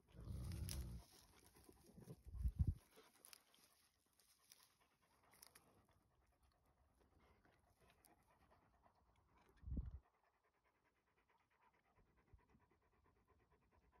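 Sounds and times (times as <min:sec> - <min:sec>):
dogs panting: 0:00.0 - 0:14.0.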